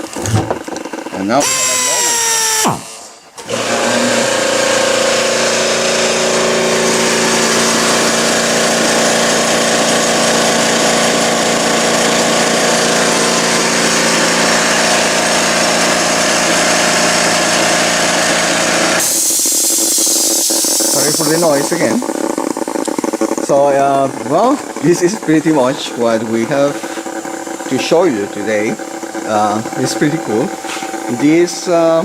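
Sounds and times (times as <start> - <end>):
air motor drone: 0.0 - 32.0
exhaust air hissing: 2.6 - 32.0.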